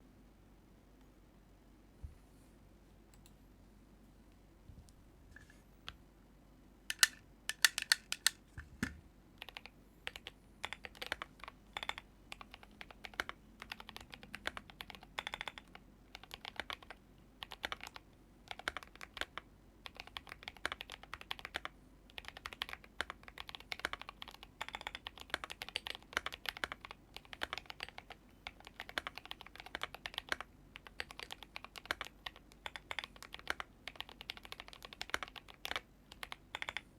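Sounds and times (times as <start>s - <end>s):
mechanical keyboard typing: 6.9s - 36.9s.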